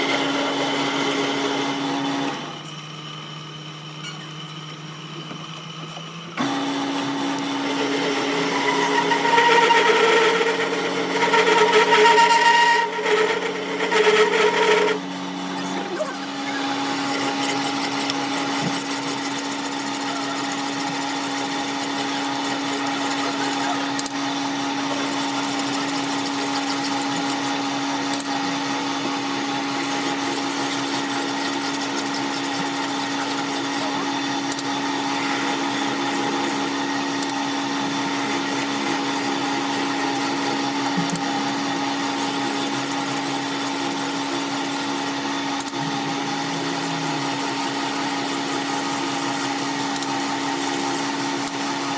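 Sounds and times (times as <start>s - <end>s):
workshop machine motor humming: 0.0s - 51.9s
rough mechanical noise: 7.4s - 51.9s.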